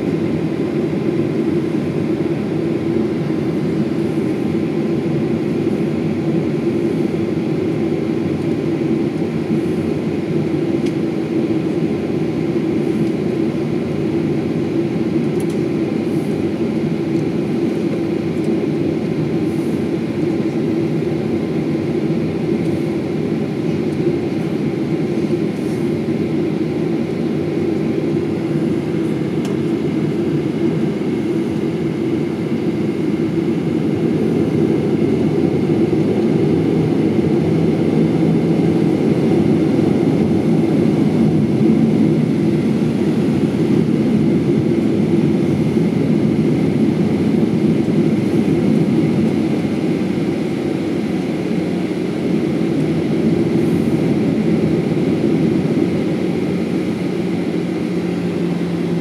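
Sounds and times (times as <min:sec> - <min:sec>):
jet cabin engine drone: 0:00.0 - 0:59.0.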